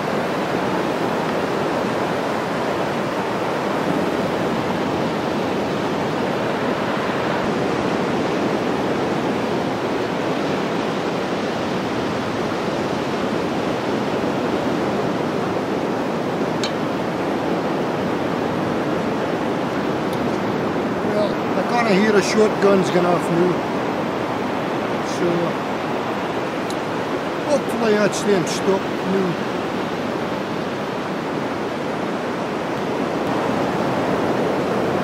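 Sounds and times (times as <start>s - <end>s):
waves breaking on beach: 0.0s - 35.0s.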